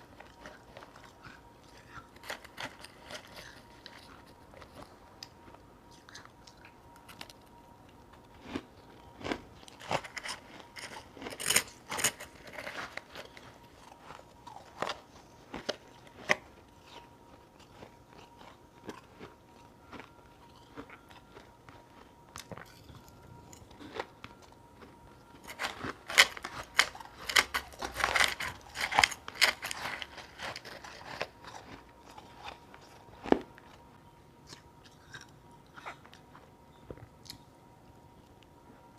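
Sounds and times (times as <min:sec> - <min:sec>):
crunching and chewing ice: 0:00.0 - 0:37.6.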